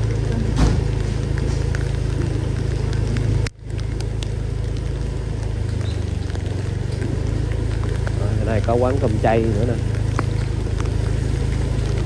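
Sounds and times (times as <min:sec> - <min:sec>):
street traffic engine rumble: 0:00.0 - 0:12.0.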